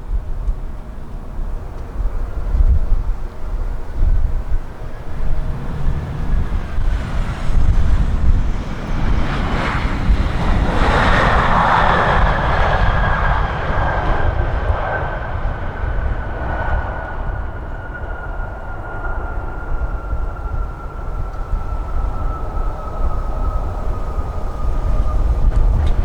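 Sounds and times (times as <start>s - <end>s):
airliner engine rush: 0.0s - 26.0s
wind rumble on microphone: 0.0s - 26.0s
jet engine whine falling in pitch: 0.1s - 26.0s.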